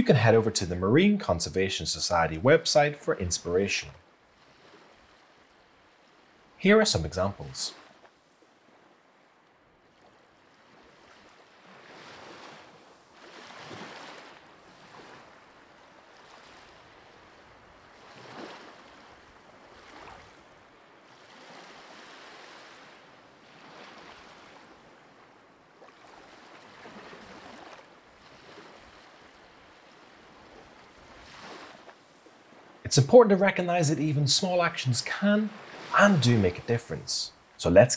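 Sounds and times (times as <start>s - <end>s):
faint sea waves: 0.0s - 37.9s.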